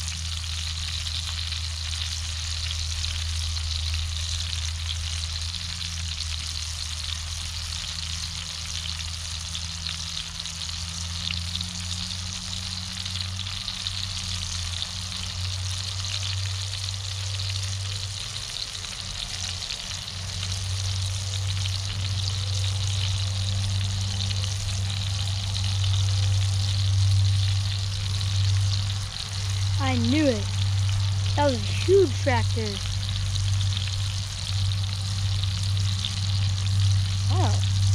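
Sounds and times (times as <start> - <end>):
steak sizzling in a skillet: 0.0 - 37.9.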